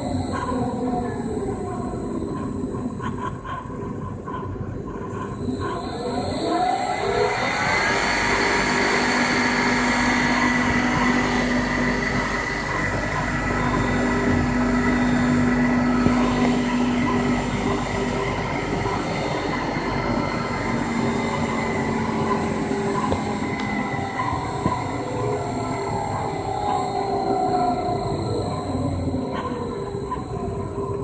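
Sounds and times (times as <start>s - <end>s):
grinder motor whining: 0.0s - 4.6s, 5.2s - 31.0s.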